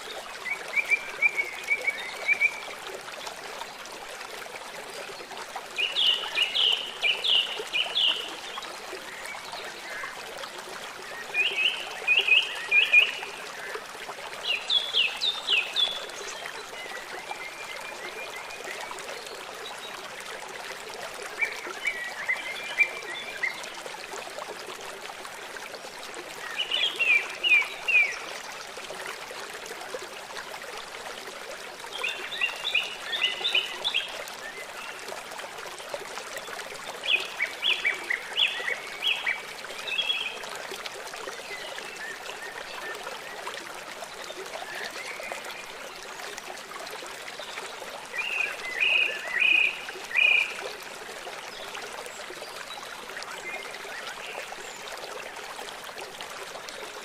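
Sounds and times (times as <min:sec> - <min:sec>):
running water trickling: 0:00.0 - 0:57.0.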